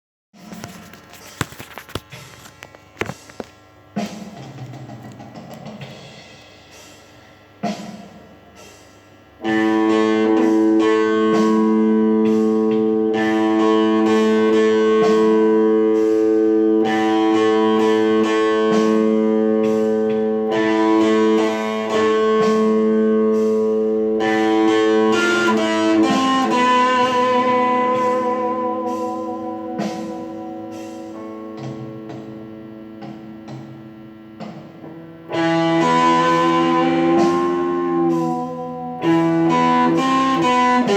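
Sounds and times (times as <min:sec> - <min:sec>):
guitar with effects: 0:07.6 - 0:40.9.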